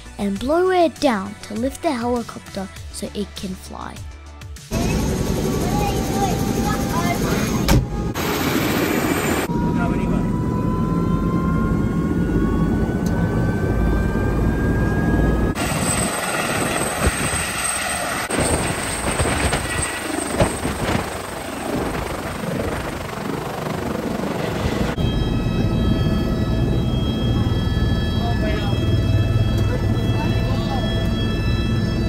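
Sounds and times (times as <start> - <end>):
helicopter engine and rotor: 4.5 - 32.0.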